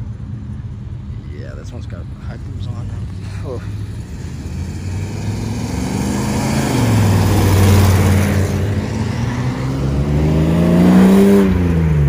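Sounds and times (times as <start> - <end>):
car engine accelerating: 1.1 - 12.0.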